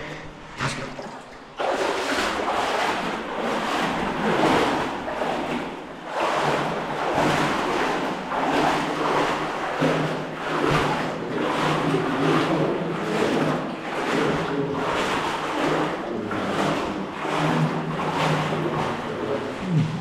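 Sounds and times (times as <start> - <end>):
water sloshing around wading legs: 0.6 - 20.0.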